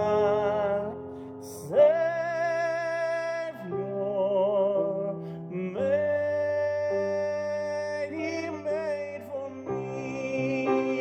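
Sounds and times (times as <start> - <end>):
person singing with vibrato: 0.0 - 11.0.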